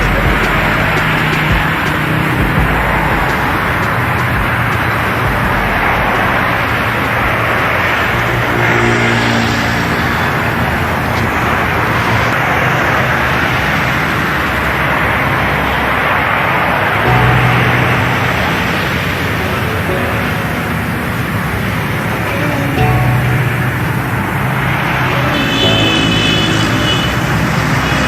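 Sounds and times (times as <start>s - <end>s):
road traffic noise: 0.0s - 28.0s
vehicle engine revving: 0.0s - 28.0s.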